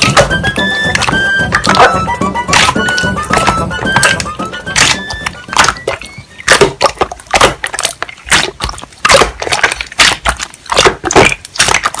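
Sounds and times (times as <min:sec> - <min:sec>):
slime squishing pops: 0:00.0 - 0:12.0.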